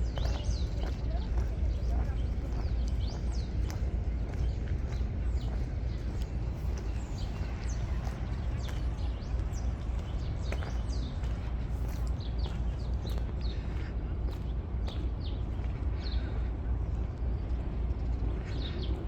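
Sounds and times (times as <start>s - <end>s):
songbirds chirping: 0.0s - 19.0s
steady low rumble: 0.0s - 19.0s.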